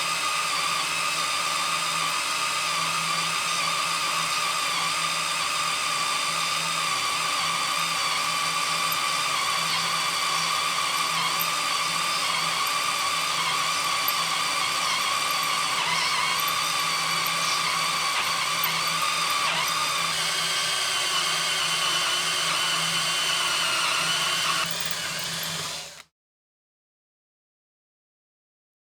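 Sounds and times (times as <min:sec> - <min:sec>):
electric drill boring into steel: 0:00.0 - 0:26.0.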